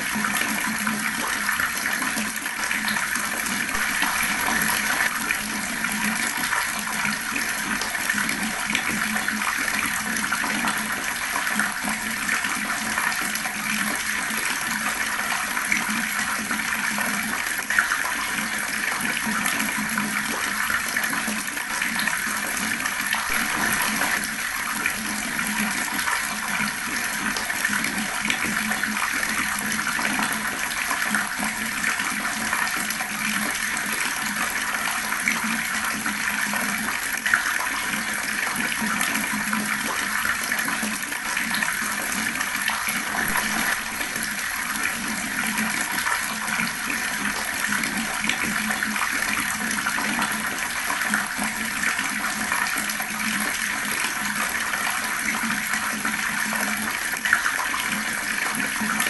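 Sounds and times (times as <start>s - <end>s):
fast-flowing water rushing: 0.0s - 17.8s, 18.5s - 39.3s, 40.2s - 59.0s.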